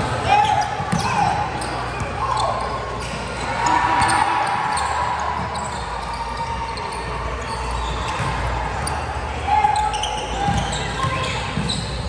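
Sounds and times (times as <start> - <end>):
gym background noise: 0.0 - 12.0.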